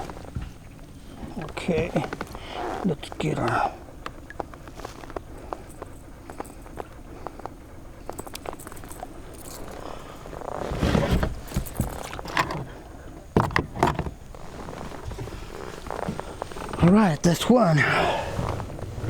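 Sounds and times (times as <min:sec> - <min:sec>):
fishing gear knocks and rustling: 0:00.0 - 0:16.8.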